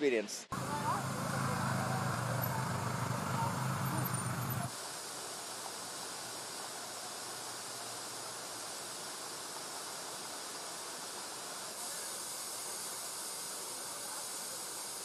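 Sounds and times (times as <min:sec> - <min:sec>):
steady hiss: 0:00.5 - 0:15.0.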